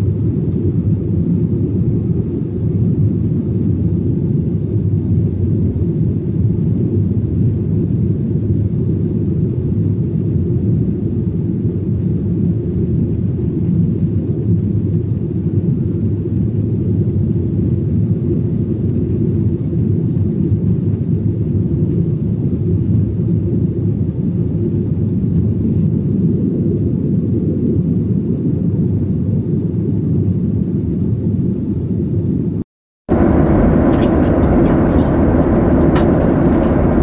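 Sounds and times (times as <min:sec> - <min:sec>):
airliner cabin engine drone: 0:00.0 - 0:37.0.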